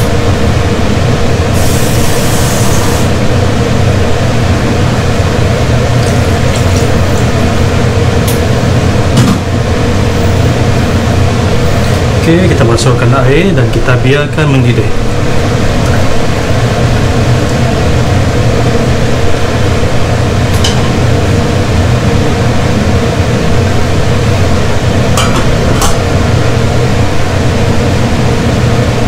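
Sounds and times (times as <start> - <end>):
kitchen machine humming: 0.0 - 29.0.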